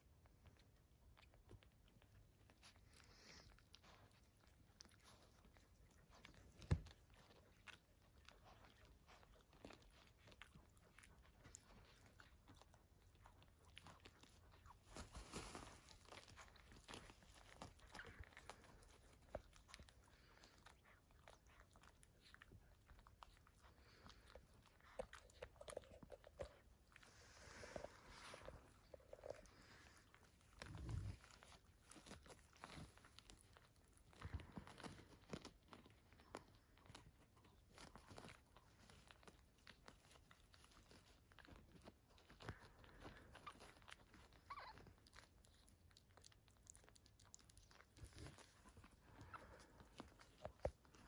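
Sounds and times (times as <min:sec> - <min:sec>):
puppies suckling: 0:00.0 - 0:51.0.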